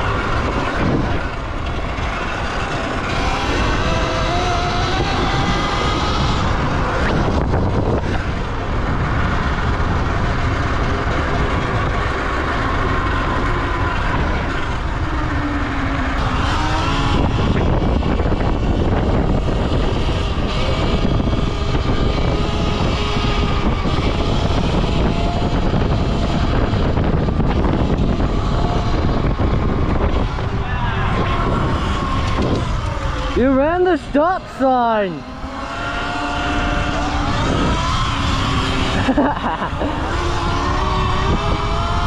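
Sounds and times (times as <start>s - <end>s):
electric motor whine: 0.0s - 34.3s, 35.2s - 42.0s
wind and road noise: 0.0s - 42.0s.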